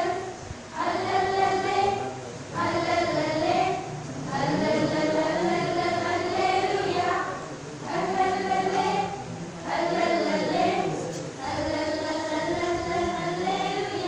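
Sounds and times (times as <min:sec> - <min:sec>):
boys choir singing: 0:00.0 - 0:14.0.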